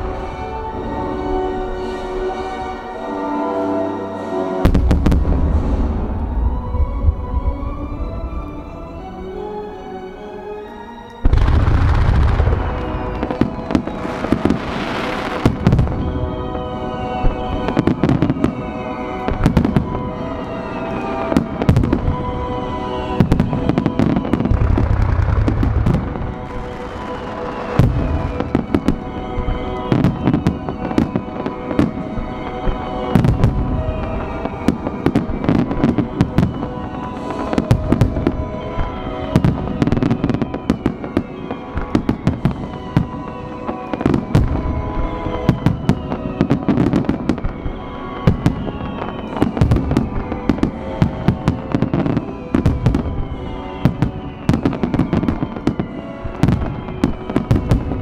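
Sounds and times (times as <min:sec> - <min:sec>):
music playing: 0:00.0 - 0:58.0
fireworks bursting: 0:11.2 - 0:58.0.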